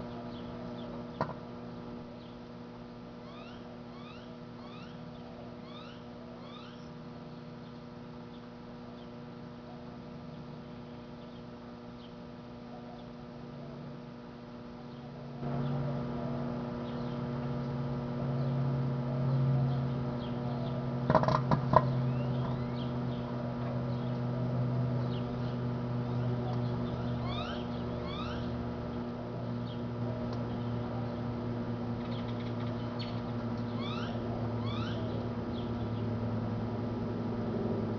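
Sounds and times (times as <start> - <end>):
microwave oven humming: 0.0 - 37.9.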